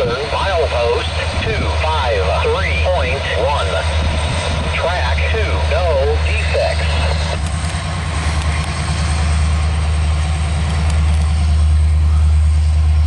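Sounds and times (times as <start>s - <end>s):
diesel locomotive engines droning: 0.0s - 13.0s
train running noise: 0.0s - 13.0s.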